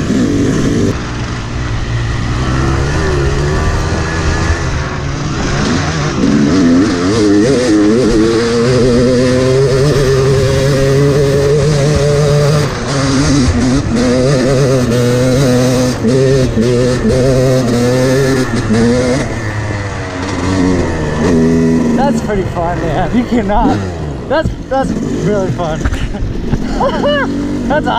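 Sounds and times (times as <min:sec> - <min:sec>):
dirt bike engine under throttle: 0:00.0 - 0:27.9.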